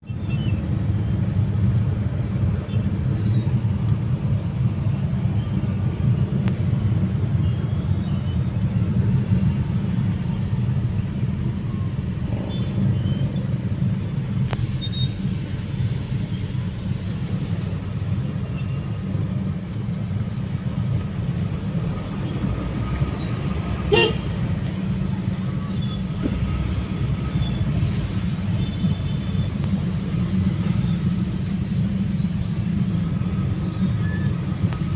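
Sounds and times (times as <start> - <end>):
vehicle engine rumbling: 0.0 - 34.9.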